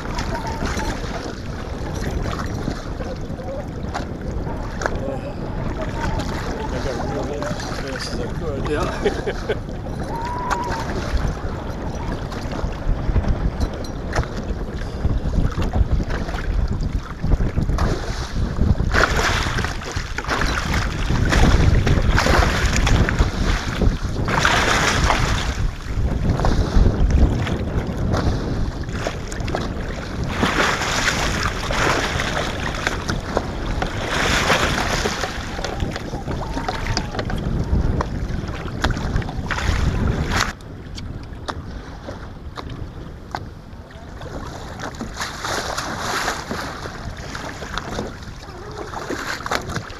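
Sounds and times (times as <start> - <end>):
waves splashing against boat: 0.0 - 49.9
wind buffeting microphone: 0.0 - 49.9.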